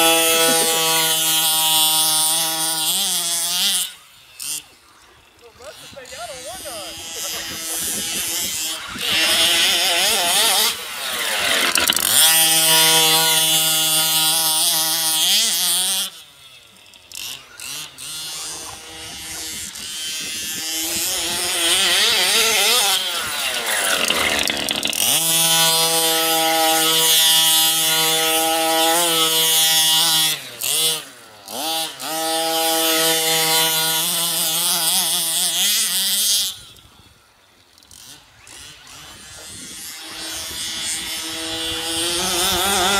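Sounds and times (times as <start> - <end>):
small two-stroke engine revving: 0.0 - 42.9.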